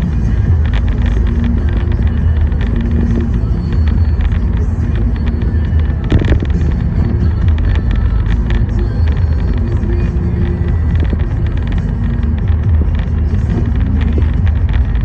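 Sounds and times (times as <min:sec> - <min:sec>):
car engine and road noise: 0:00.0 - 0:15.0
light ticking: 0:00.0 - 0:15.0.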